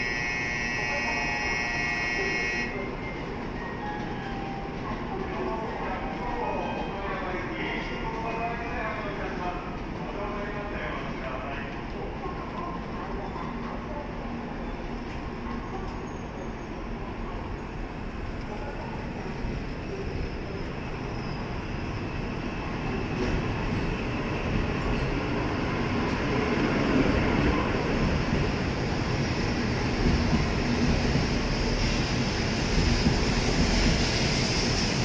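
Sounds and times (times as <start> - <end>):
train running noise: 0.0 - 35.0.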